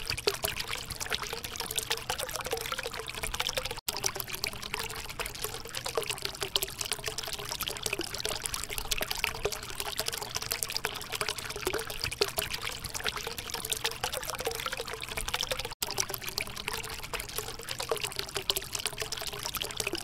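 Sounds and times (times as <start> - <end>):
tabletop fountain water trickling: 0.0 - 20.0.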